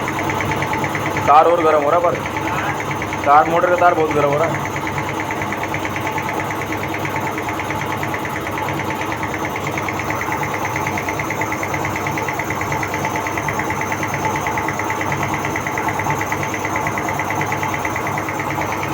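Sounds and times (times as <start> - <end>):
air compressor running: 0.0 - 18.9.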